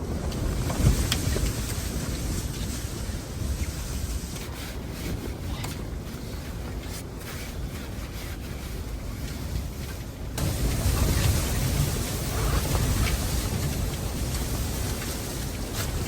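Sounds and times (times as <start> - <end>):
blizzard wind buffeting microphone: 0.0 - 16.0.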